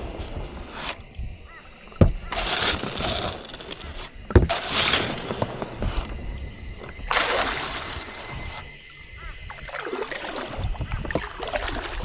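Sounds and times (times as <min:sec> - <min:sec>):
water splashing around a kayak: 0:00.0 - 0:12.0.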